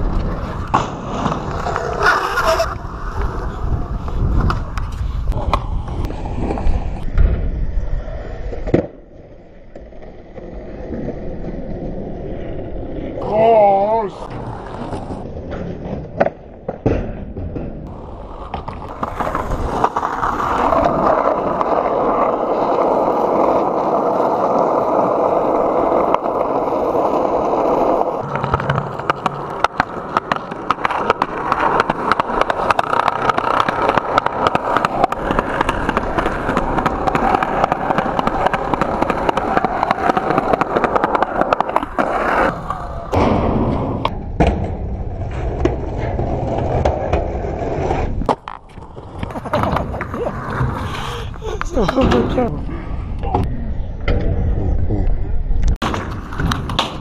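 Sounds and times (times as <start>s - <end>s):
skateboard impacts: 0.0s - 7.5s, 8.4s - 11.6s, 13.2s - 52.5s, 55.8s - 57.0s
skateboard wheels rolling on concrete: 0.0s - 57.0s.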